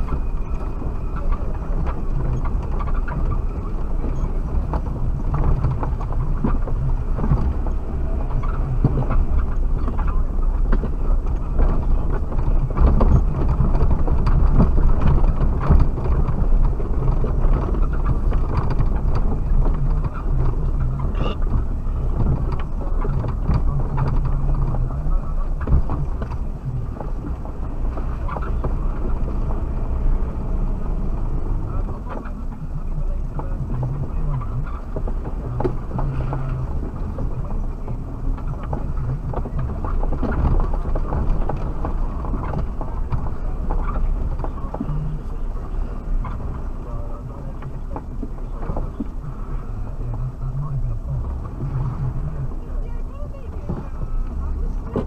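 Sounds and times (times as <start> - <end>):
car engine running: 0.0 - 55.0
knocks and rattles: 0.0 - 55.0.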